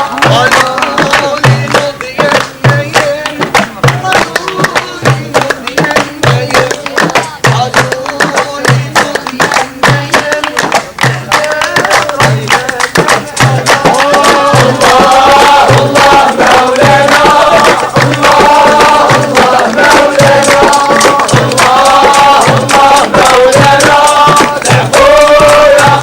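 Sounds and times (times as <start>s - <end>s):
group of voices chanting: 0.0s - 26.0s
sharp claps: 0.0s - 26.0s.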